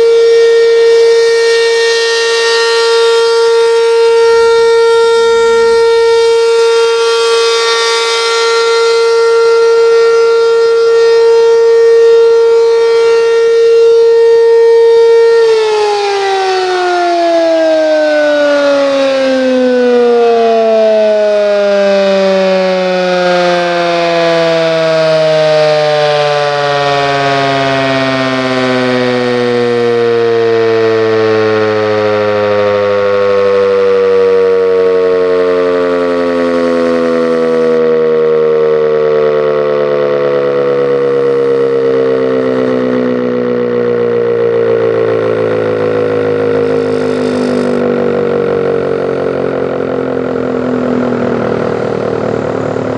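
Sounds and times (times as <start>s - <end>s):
siren winding down: 0.0s - 52.9s.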